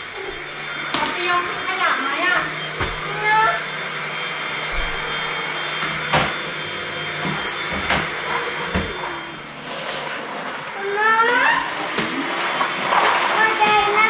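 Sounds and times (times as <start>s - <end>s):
floor cleaner humming: 0.0s - 14.0s.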